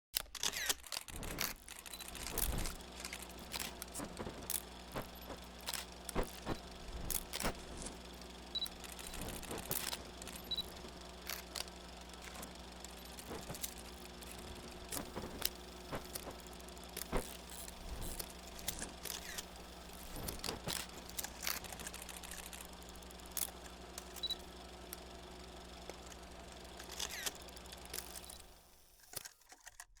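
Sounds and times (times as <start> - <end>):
film projector running hum: 0.4 - 29.2
film crackles and pops: 1.1 - 25.1.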